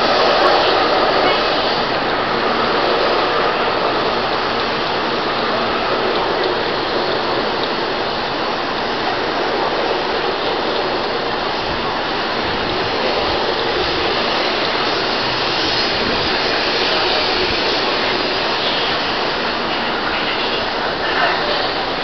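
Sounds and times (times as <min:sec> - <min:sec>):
high-speed train rushing past: 0:00.0 - 0:22.0.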